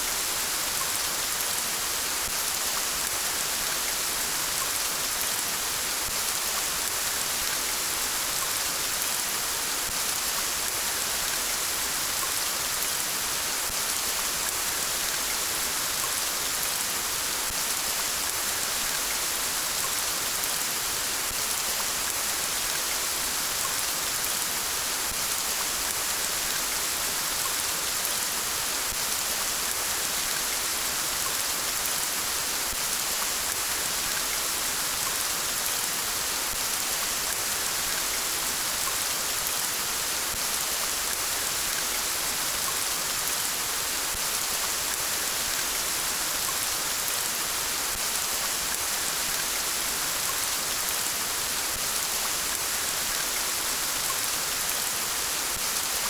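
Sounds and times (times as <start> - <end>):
steady rain pattering: 0.0 - 56.0.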